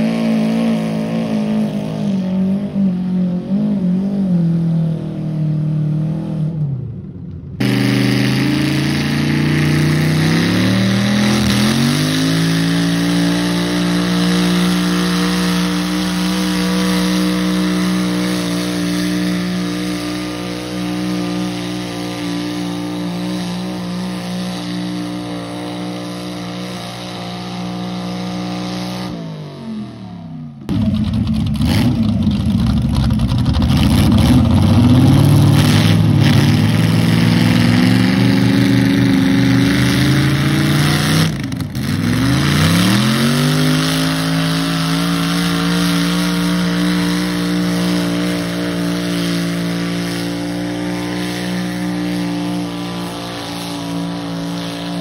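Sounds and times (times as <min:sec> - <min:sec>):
tractor engine screaming: 0:07.6 - 0:55.0.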